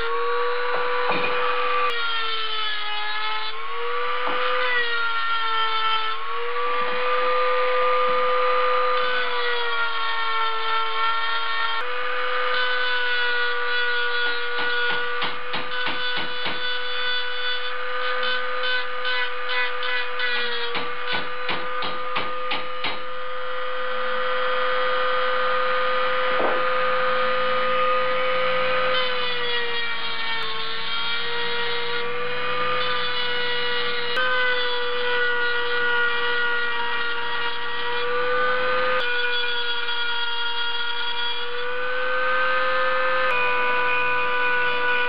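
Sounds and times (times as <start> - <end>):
rotary tool grinding metal: 0.0 - 45.0.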